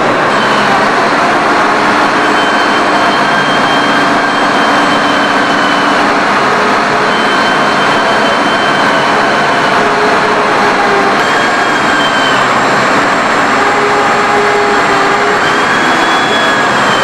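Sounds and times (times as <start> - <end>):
loud machinery noise: 0.0 - 17.0
faint high whines: 1.6 - 17.0.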